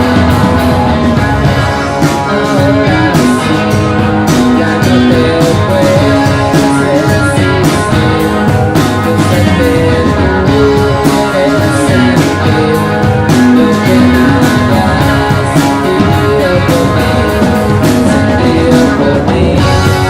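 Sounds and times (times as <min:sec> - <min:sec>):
drum hits: 0:00.0 - 0:20.0
guitar line: 0:00.0 - 0:20.0
live rock band playing: 0:00.0 - 0:20.0.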